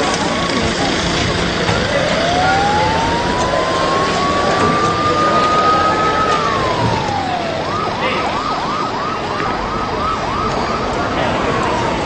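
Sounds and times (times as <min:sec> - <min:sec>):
emergency vehicle siren: 0:00.0 - 0:12.0
street noise: 0:00.0 - 0:12.0.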